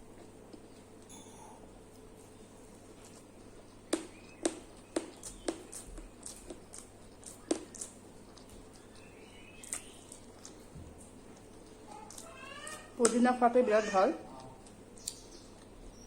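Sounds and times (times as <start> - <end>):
person chewing food: 0.0 - 13.0, 14.2 - 16.0.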